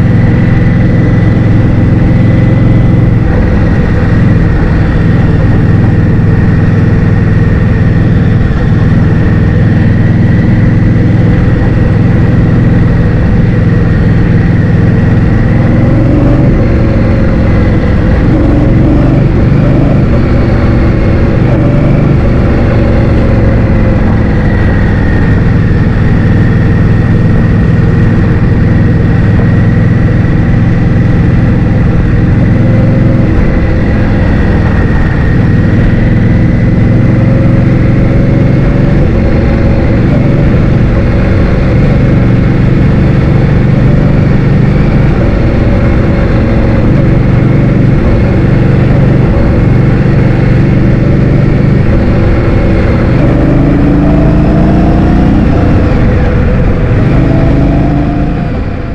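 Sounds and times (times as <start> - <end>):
motor scooter engine hum: 0.0 - 58.9
wind noise: 0.0 - 58.9.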